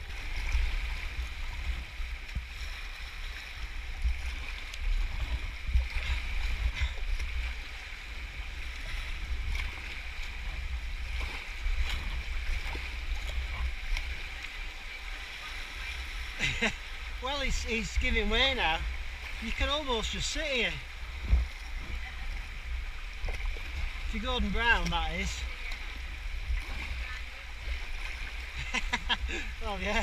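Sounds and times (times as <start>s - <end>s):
paddle splashes: 0.0s - 30.0s
white water rushing around kayak: 0.0s - 30.0s.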